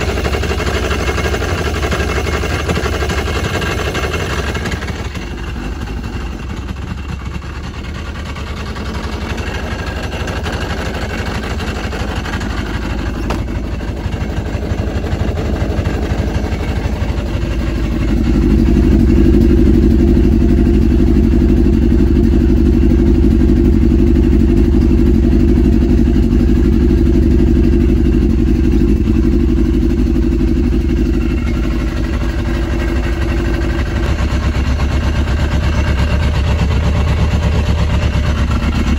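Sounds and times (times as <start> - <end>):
snowmobile engine idling: 0.0 - 38.9.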